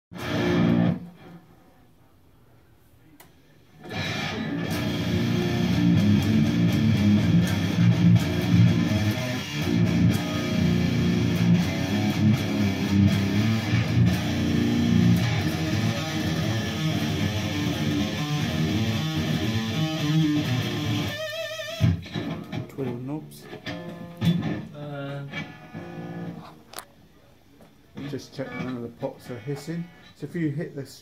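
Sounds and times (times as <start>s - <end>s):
electric guitar through amplifier: 0.1s - 1.7s, 3.2s - 26.9s, 28.0s - 30.2s.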